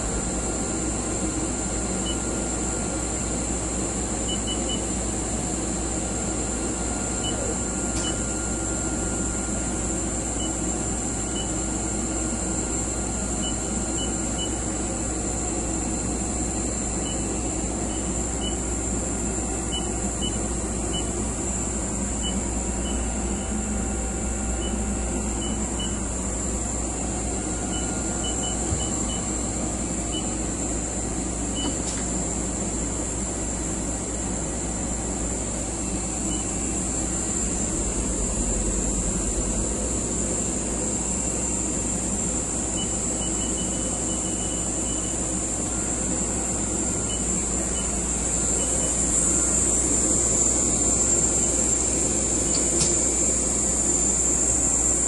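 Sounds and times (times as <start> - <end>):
machinery hum with hiss: 0.0 - 55.0.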